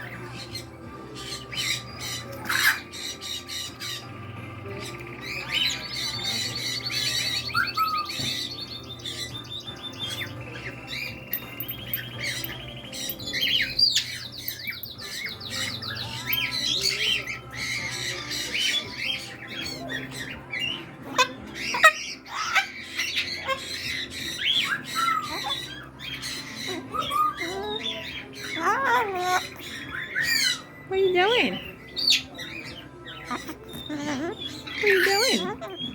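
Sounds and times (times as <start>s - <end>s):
parrots squawking and chirping: 0.0s - 35.9s.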